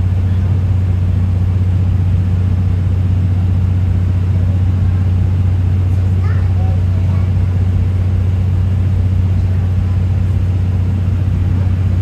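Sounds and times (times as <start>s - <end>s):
diesel engine drone: 0.0s - 12.0s
train running noise: 0.0s - 12.0s.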